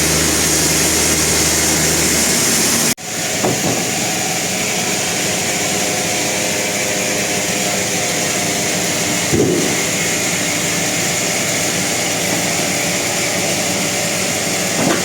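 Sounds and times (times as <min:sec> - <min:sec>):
sawmill machinery hum and hiss: 0:00.0 - 0:15.0.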